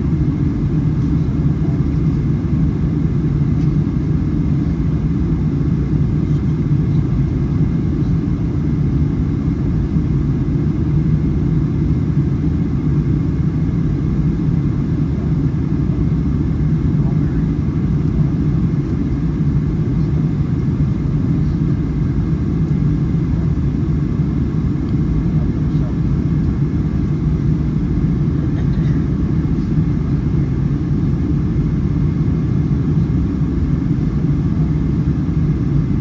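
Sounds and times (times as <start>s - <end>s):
airplane cabin rumble in flight: 0.0s - 36.0s.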